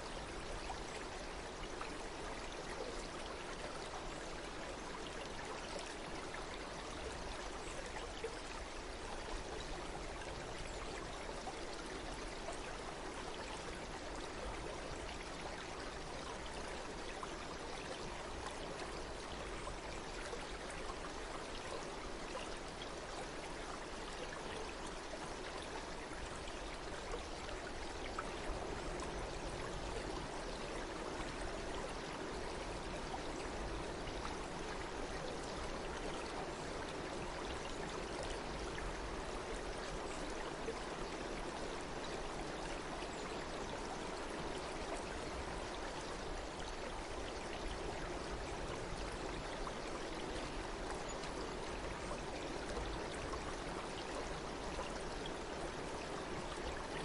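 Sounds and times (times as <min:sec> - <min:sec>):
stream water trickling and splashing: 0:00.0 - 0:57.0.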